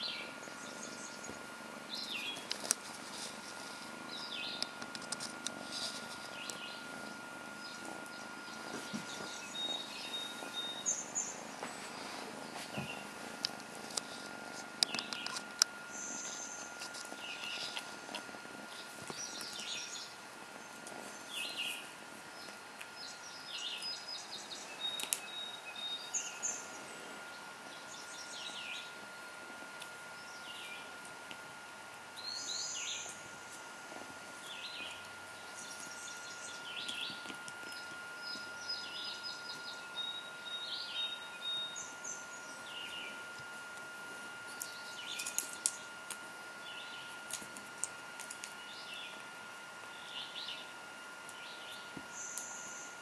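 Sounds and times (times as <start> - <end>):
small birds chirping: 0.0 - 31.4, 32.2 - 43.8, 44.4 - 53.0
thin constant tone: 0.0 - 53.0.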